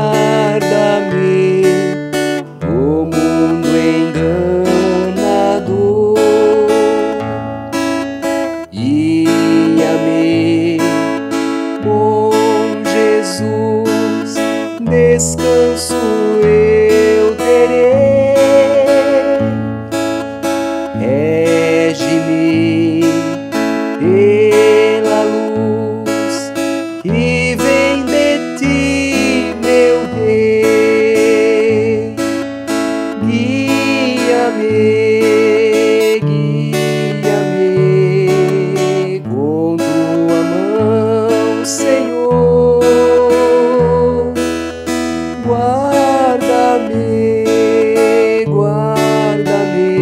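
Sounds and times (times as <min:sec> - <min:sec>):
acoustic guitar strumming: 0:00.0 - 0:50.0
slow melody with vibrato: 0:00.0 - 0:50.0.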